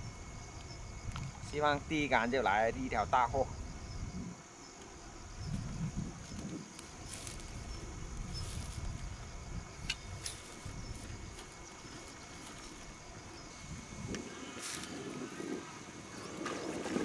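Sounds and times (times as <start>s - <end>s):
wind rumble on microphone: 0.0s - 4.4s, 5.2s - 17.0s
insects chirping: 0.0s - 17.0s.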